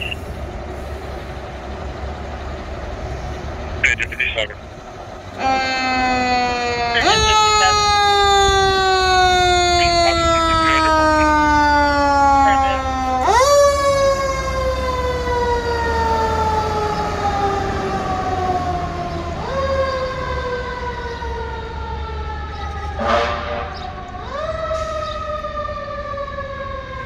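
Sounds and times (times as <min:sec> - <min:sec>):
fire engine siren: 0:00.0 - 0:01.4, 0:05.3 - 0:27.0.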